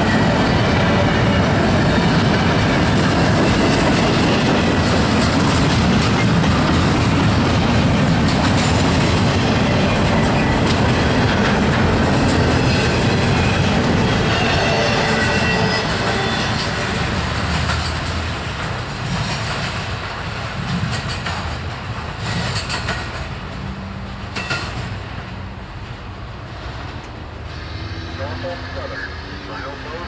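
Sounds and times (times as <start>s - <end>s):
freight cars rumbling and clacking: 0.0s - 30.0s.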